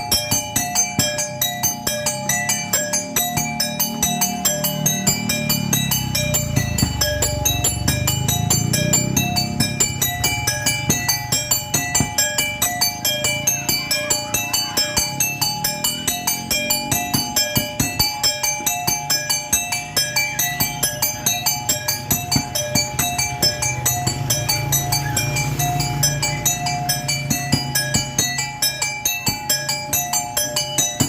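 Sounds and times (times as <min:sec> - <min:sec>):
tuned metal percussion music: 0:00.0 - 0:31.0.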